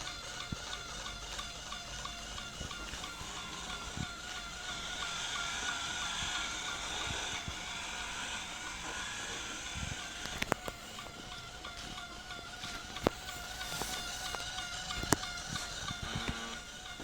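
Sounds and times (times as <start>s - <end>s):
robot vacuum whining: 0.0s - 17.0s.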